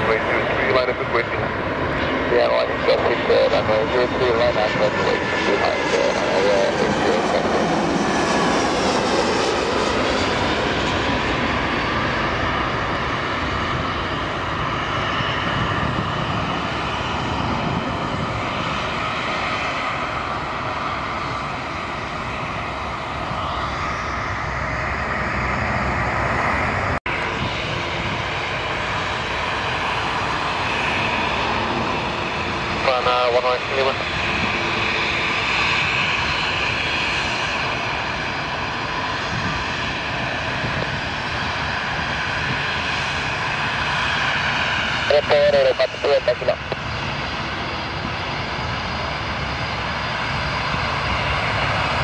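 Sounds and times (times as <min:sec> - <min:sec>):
jet passing with falling whine: 0:00.0 - 0:52.0
steady jet roar: 0:00.0 - 0:52.0.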